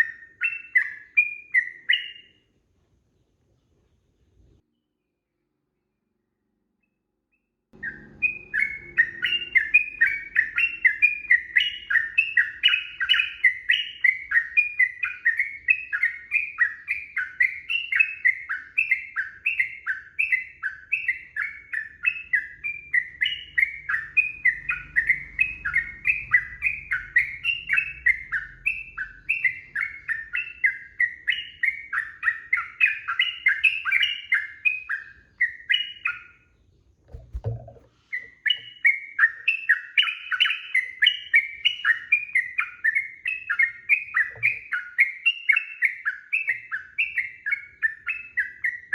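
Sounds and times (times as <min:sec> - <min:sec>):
bird chattering song: 0:00.0 - 0:02.5, 0:07.8 - 0:48.9.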